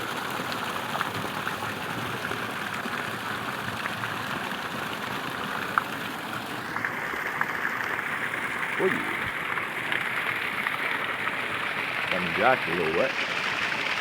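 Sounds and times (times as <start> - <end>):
running water splashing: 0.0 - 14.0
water drips and clicks: 0.0 - 14.0.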